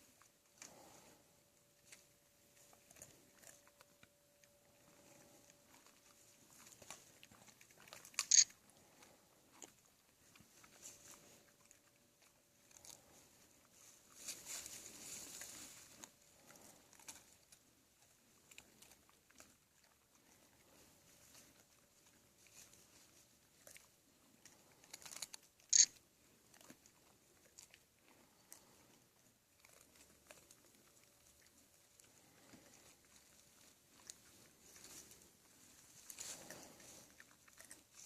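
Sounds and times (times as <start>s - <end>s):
bears crunching peanuts: 0.0s - 38.0s
small crackles: 0.0s - 38.0s.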